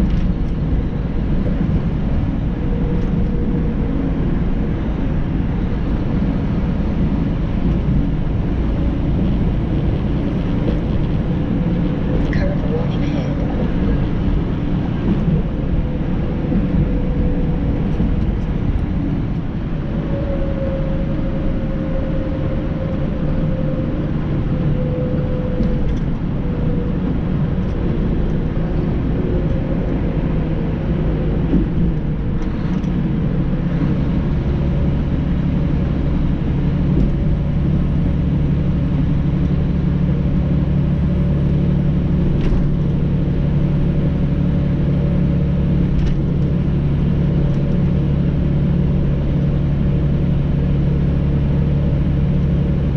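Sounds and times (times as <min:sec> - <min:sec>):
road rumble: 0:00.0 - 0:52.9
truck engine drone: 0:00.0 - 0:52.9.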